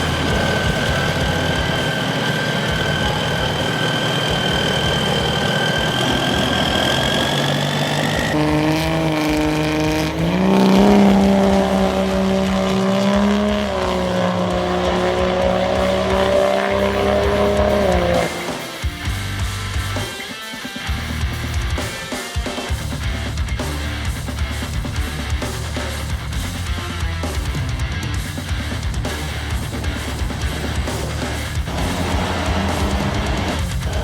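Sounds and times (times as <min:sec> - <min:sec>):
race truck engine revving: 0:00.0 - 0:20.0, 0:23.0 - 0:34.0
high steady whine: 0:00.0 - 0:22.1, 0:22.7 - 0:34.0.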